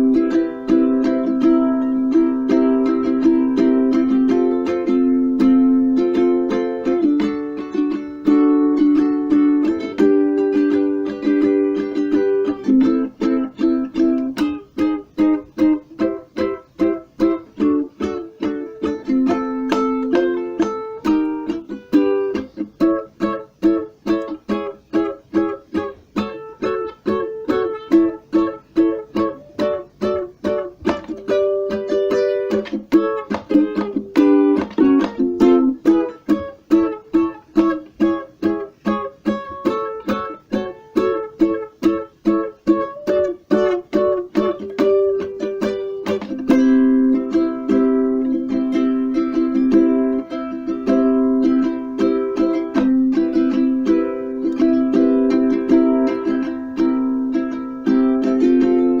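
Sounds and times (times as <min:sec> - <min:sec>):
ukulele strumming: 0:00.0 - 0:59.0.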